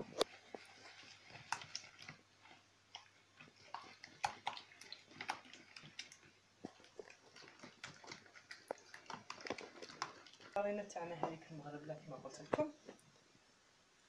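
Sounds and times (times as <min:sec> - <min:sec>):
wet squelches of hand mixing: 0:00.0 - 0:13.1.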